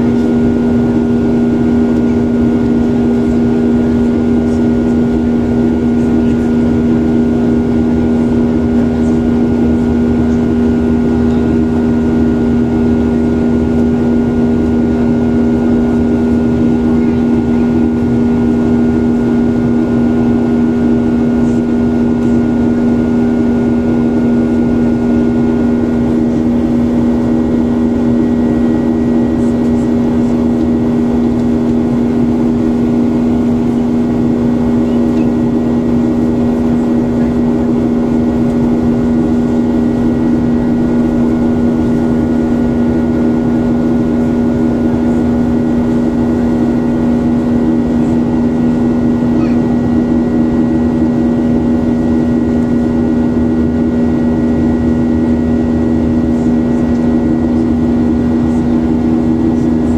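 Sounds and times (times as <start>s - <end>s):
jet engine drone in airliner cabin: 0.0s - 59.9s.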